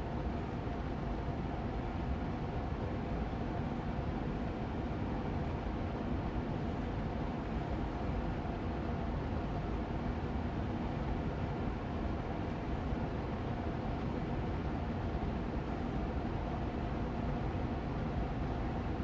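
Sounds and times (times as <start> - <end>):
air purifier fan running: 0.0 - 19.0.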